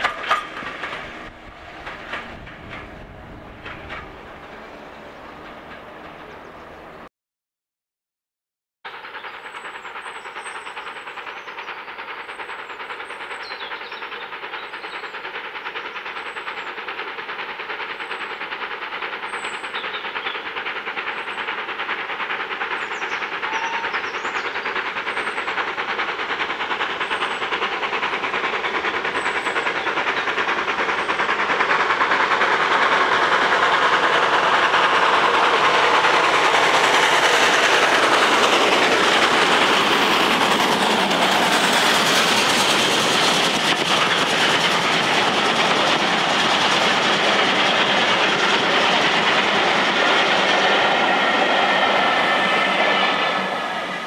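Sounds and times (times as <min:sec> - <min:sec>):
steam locomotive and train approaching: 0:00.0 - 0:07.1, 0:08.9 - 0:54.0.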